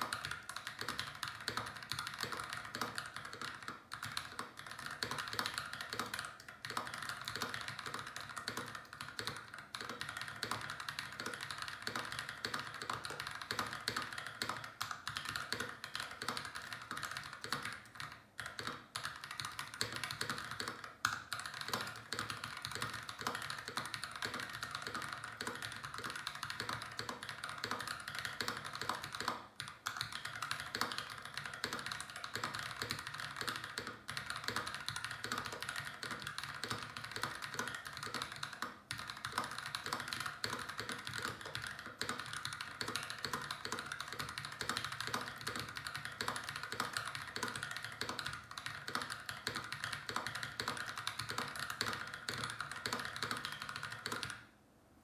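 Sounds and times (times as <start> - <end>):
mechanical keyboard typing: 0.0 - 54.5.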